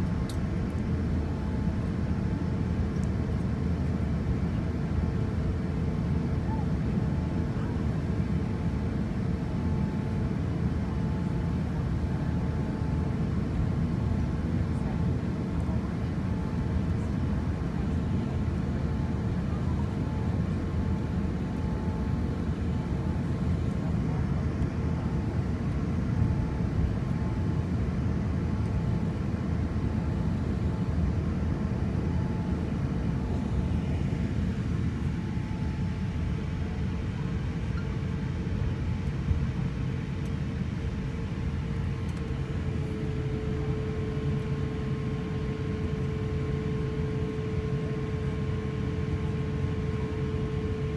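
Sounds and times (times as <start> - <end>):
faint steady hum: 0.0 - 50.9
jet engines low rumble: 0.0 - 50.9.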